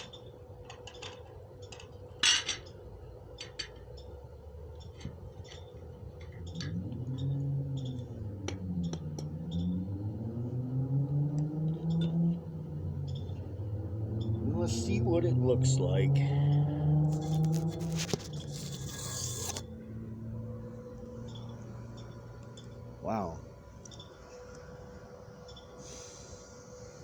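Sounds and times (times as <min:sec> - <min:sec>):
low wavering drone: 0:04.3 - 0:27.0.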